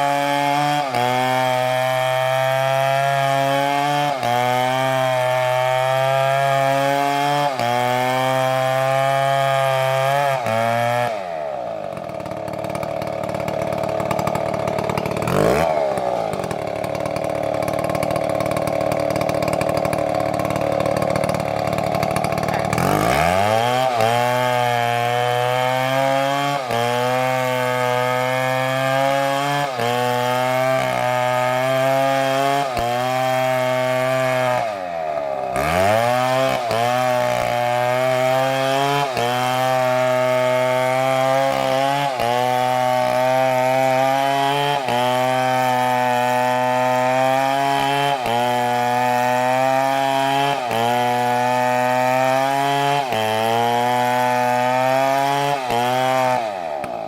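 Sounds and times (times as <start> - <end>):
chainsaw at full throttle: 0.0 - 57.0.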